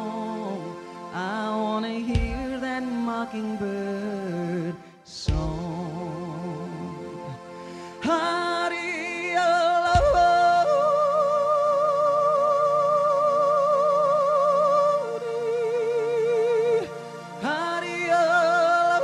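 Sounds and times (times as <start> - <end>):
sustained keyboard chords: 0.0 - 19.0.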